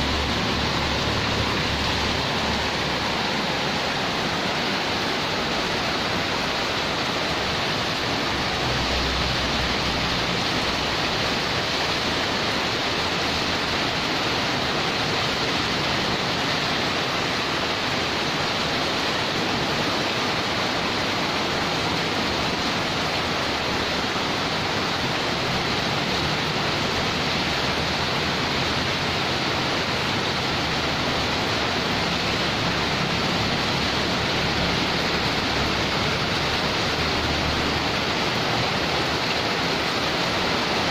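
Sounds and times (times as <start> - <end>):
heavy rain on concrete: 0.0 - 40.9.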